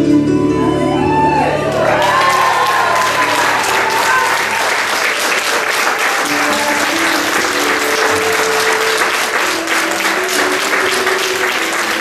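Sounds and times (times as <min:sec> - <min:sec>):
music with held notes: 0:00.0 - 0:12.0
audience applauding: 0:01.5 - 0:12.0.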